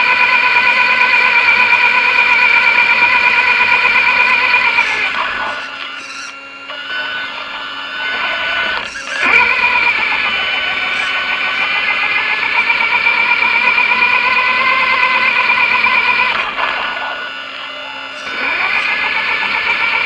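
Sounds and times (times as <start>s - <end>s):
rc truck motor whine: 0.0s - 20.0s.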